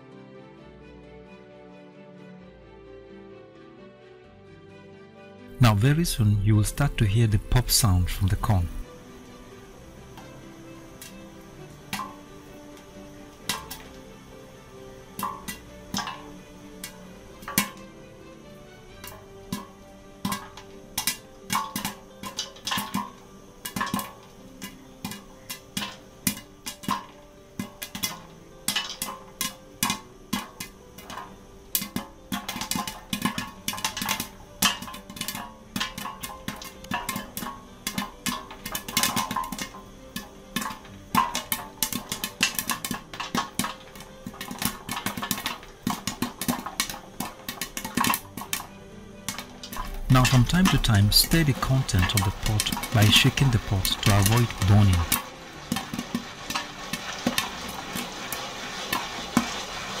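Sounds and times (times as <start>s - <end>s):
background music: 0.0s - 60.0s
popcorn popping in a pot: 5.6s - 60.0s.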